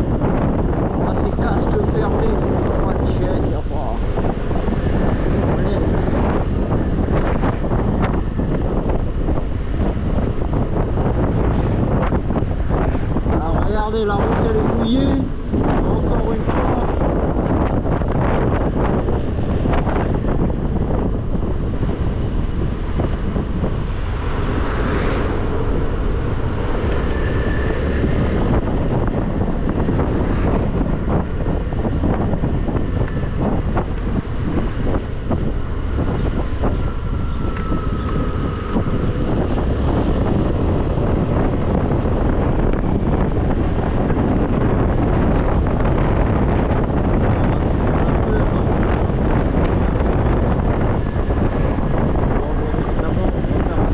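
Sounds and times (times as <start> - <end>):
tyres on wet road: 0.0 - 53.9
wind rushing over microphone: 0.0 - 53.9.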